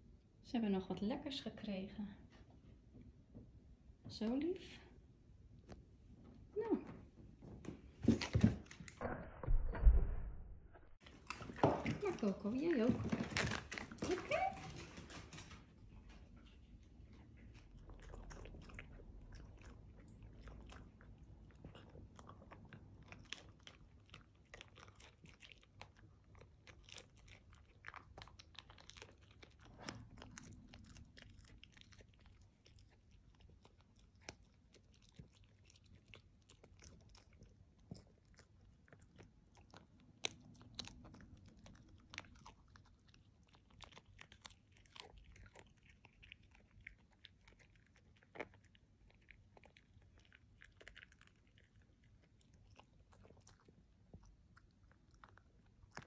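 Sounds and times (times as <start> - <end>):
dog chewing a hard treat: 11.0 - 56.0.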